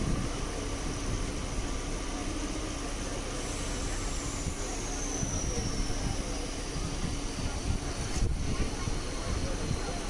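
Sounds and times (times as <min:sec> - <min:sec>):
electric train rumble: 0:00.0 - 0:10.0.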